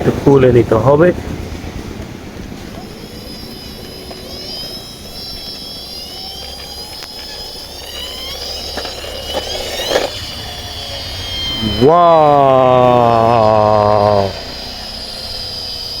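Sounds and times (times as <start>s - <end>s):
toy helicopter mechanical whine: 0.0s - 16.0s.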